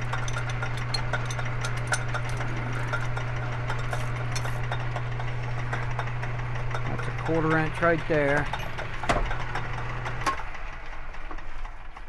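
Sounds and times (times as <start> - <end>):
electric motor humming: 0.0 - 10.6.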